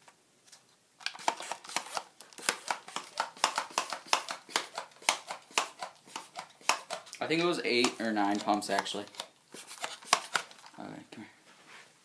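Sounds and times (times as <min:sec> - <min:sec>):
toy blaster pump plastic clacks: 0:01.0 - 0:10.7.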